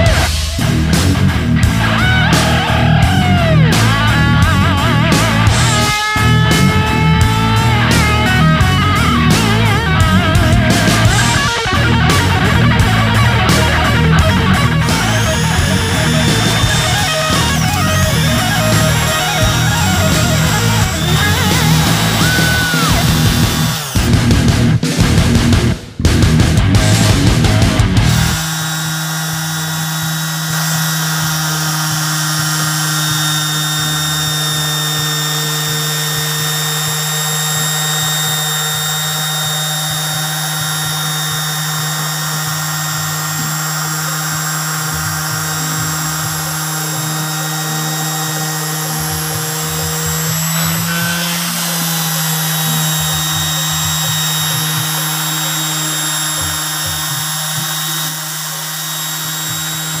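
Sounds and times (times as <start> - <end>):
electric sander humming and whining: 0.0 - 24.7, 26.7 - 60.0.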